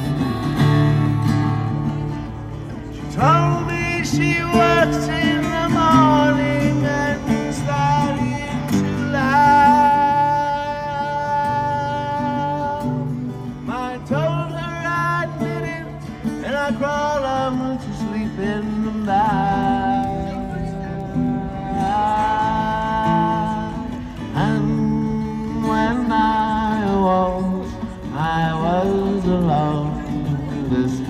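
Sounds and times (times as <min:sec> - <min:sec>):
acoustic guitar: 0:00.0 - 0:31.0.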